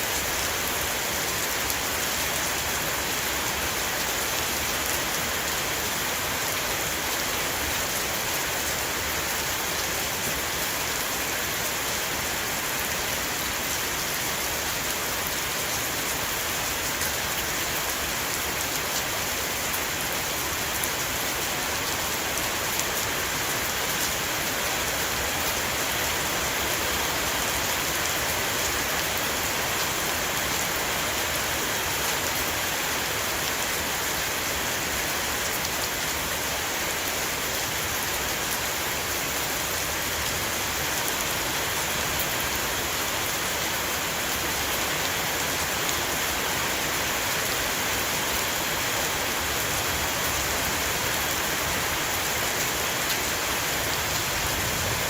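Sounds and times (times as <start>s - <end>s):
heavy rain drumming on a roof: 0.0s - 55.0s.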